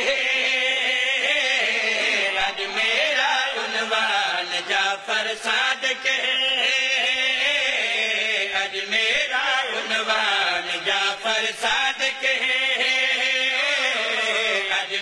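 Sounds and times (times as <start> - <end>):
men chanting into microphone: 0.0 - 15.0.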